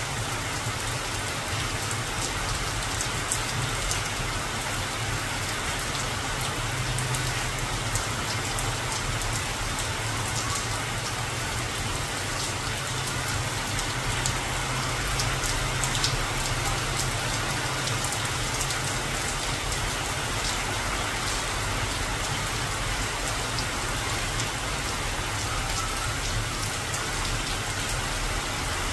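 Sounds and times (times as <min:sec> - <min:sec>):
rain falling on foliage: 0:00.0 - 0:28.9.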